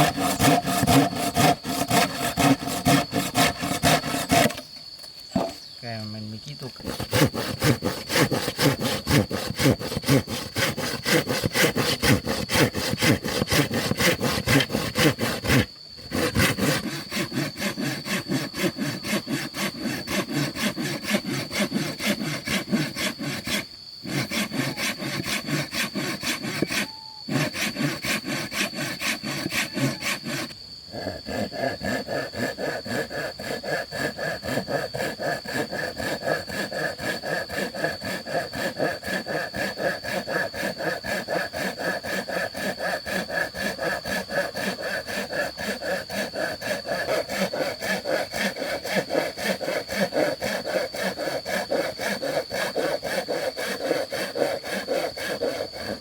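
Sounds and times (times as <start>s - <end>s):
hand saw cutting wood: 0.0s - 5.6s, 6.8s - 56.0s.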